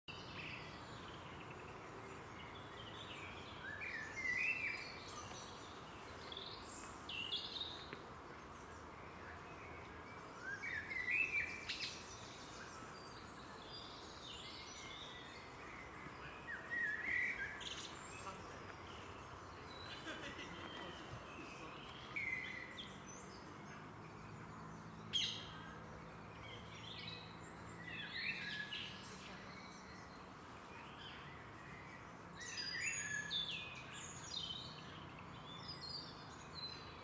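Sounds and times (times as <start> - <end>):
songbird singing: 0.0 - 37.0
faint background hiss: 0.1 - 37.0.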